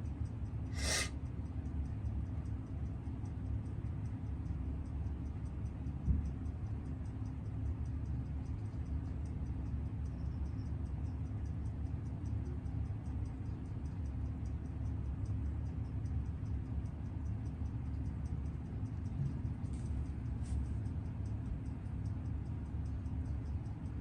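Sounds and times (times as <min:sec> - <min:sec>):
steady low hum: 0:00.0 - 0:24.0
watch movement ticking: 0:00.3 - 0:24.0.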